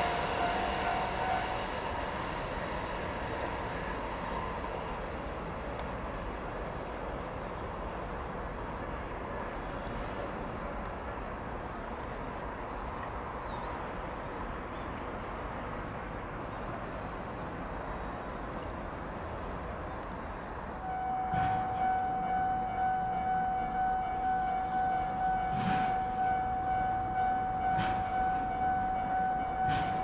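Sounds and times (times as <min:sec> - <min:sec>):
train rumbling by: 0:00.0 - 0:30.0.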